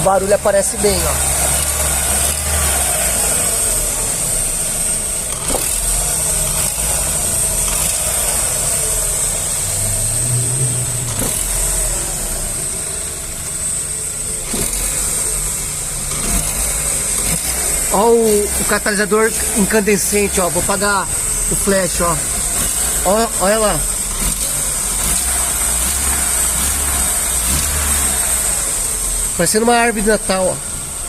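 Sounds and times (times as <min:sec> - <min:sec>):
car engine running: 0:00.0 - 0:31.0
faint intermittent engine noise: 0:00.0 - 0:31.0.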